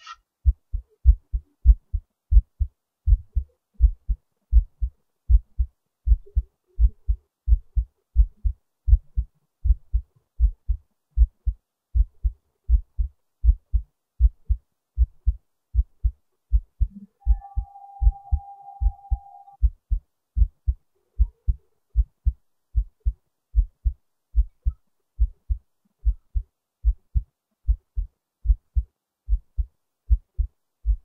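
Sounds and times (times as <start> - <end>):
human heartbeat: 0.4 - 31.0.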